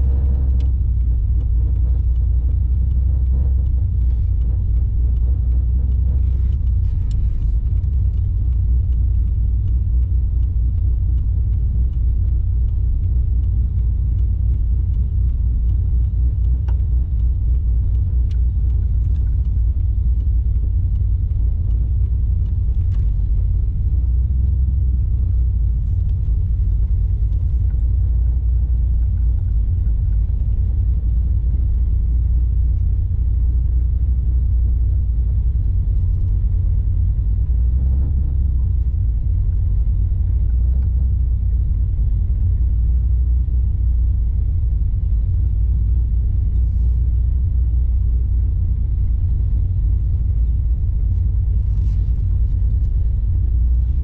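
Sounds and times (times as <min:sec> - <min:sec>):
car engine rumble in cabin: 0:00.0 - 0:54.0
road noise: 0:00.0 - 0:54.0.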